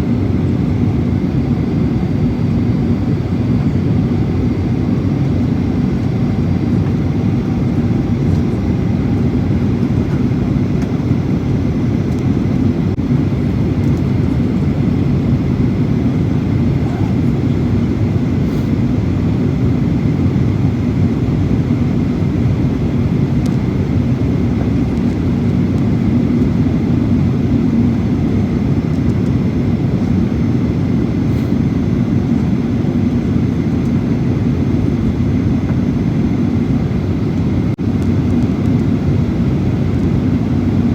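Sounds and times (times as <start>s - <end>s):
jet airliner engine roar: 0.0s - 40.9s.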